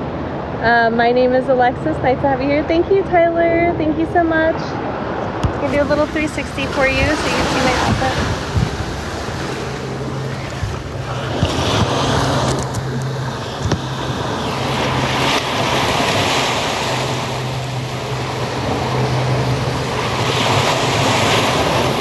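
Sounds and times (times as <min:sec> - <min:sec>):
low steady hum: 0:00.0 - 0:22.0
wind buffeting microphone: 0:00.0 - 0:22.0
ocean surf washing in: 0:03.5 - 0:22.0.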